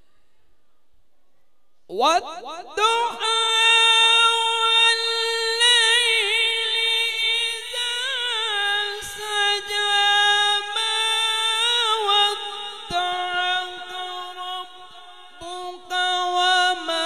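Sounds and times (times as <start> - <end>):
man chanting melodically: 1.9 - 17.0.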